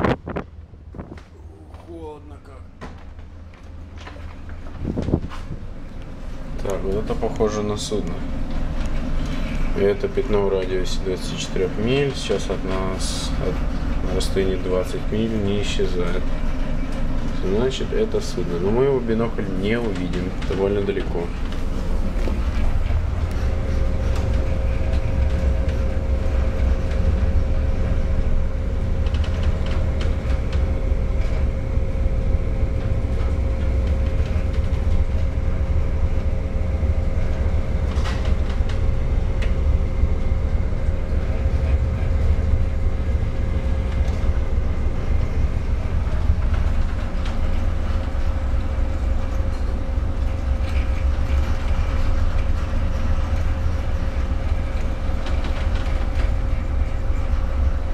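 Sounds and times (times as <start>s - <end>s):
ship engine low rumble: 0.0s - 57.9s
steady hum: 0.0s - 57.9s.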